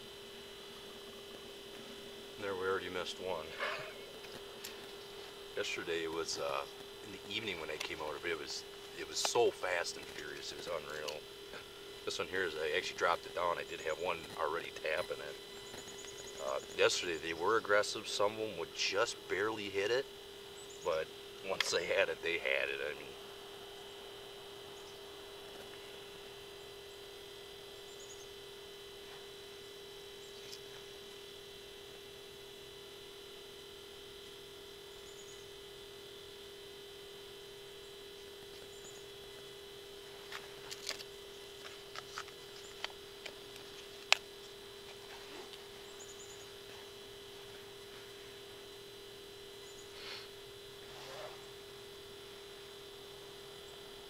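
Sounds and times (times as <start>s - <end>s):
electronic hum: 0.0s - 54.0s
faint high whine: 0.0s - 54.0s.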